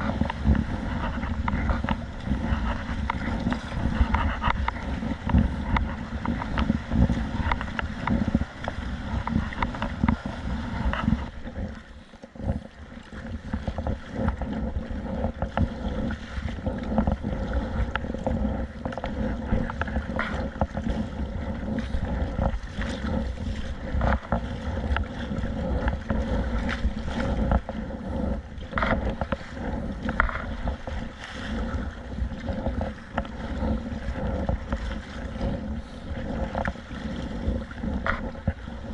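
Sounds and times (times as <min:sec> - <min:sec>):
water splashing against kayak: 0:00.0 - 0:38.9
wind buffeting microphone: 0:00.0 - 0:38.9.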